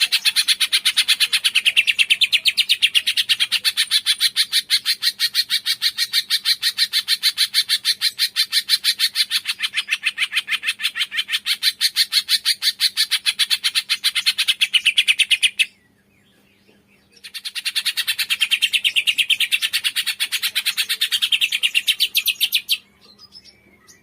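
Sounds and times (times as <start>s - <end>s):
bird singing fast trills: 0.0s - 24.0s.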